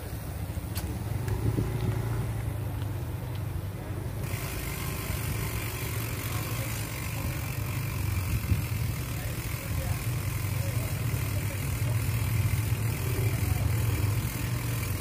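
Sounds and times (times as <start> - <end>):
bicycle tyres on tarmac: 0.0 - 15.0.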